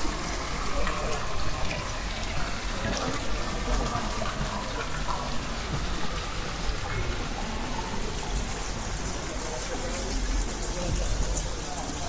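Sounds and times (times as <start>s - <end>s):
fountain water splashing: 0.0s - 12.0s
murmur of voices: 0.0s - 12.0s.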